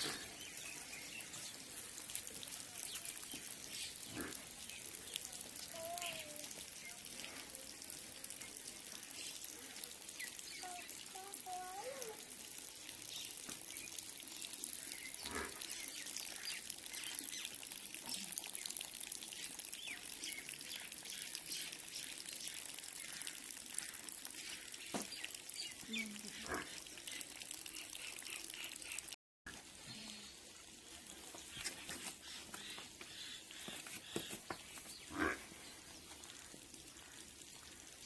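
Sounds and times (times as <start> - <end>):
rain falling and dripping: 0.0 - 33.6, 34.5 - 38.0.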